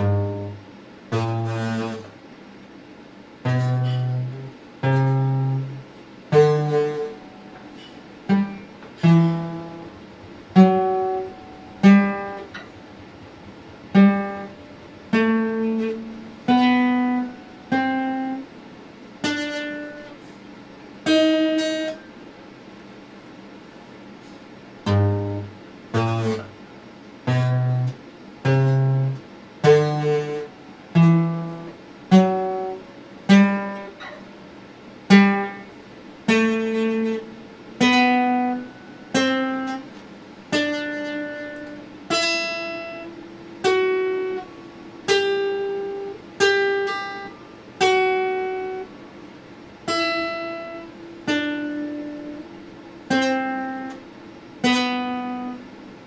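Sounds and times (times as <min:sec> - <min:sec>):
acoustic guitar plucked slowly: 0:00.0 - 0:22.3, 0:24.1 - 0:56.0.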